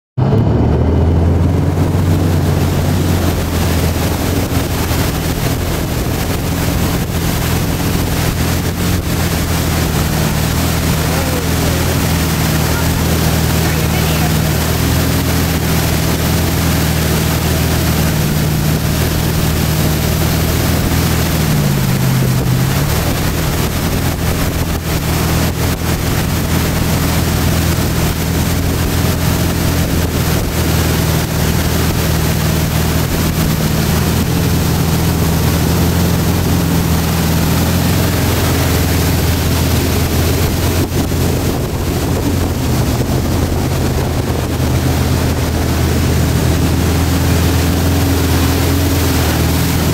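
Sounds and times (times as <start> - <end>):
boat engine running: 0.2 - 49.9
rushing wind and water: 0.2 - 49.9.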